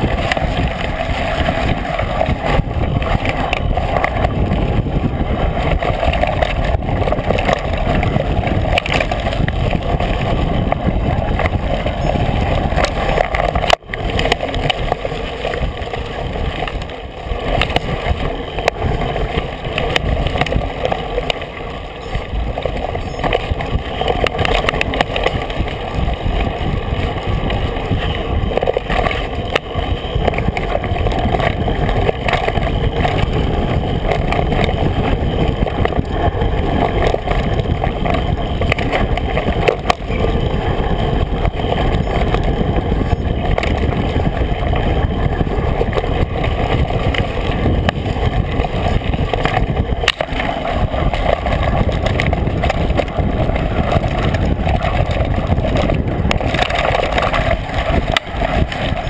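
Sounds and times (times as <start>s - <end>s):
bike tyres rumbling on rough ground: 0.0s - 59.0s
wind on microphone: 0.0s - 59.0s.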